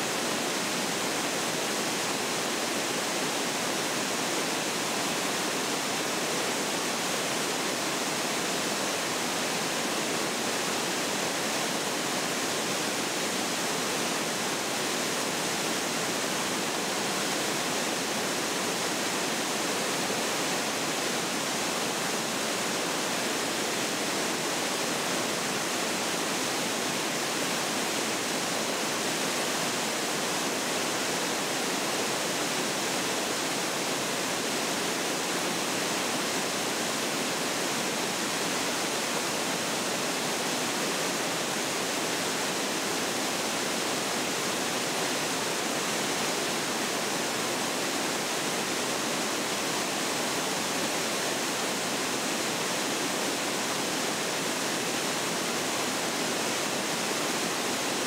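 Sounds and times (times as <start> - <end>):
water roaring over a spillway: 0.0 - 58.0.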